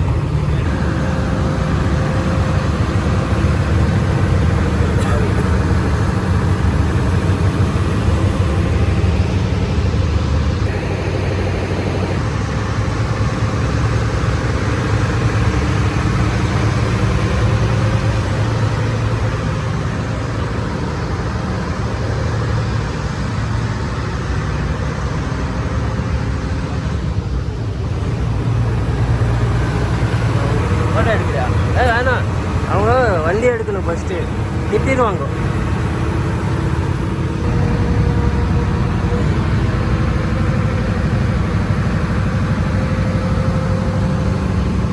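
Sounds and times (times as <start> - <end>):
engine humming steadily: 0.0 - 44.9.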